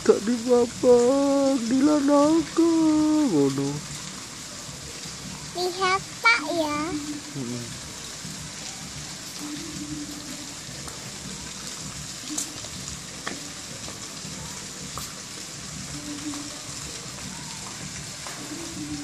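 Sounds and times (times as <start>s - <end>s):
water hissing: 0.0s - 19.0s.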